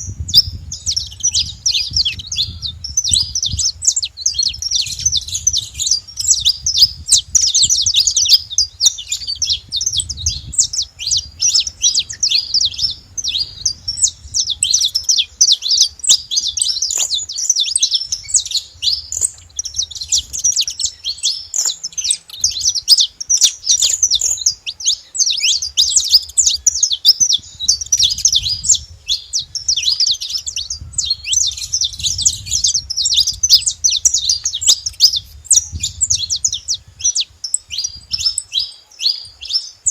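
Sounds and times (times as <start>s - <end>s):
flock of finches chirping: 0.0s - 39.9s.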